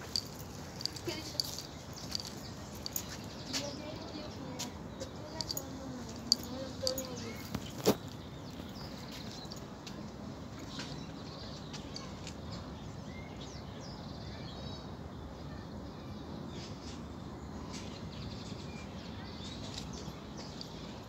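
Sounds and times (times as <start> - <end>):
low outdoor background noise: 0.0 - 21.0
small birds chirping: 0.0 - 21.0.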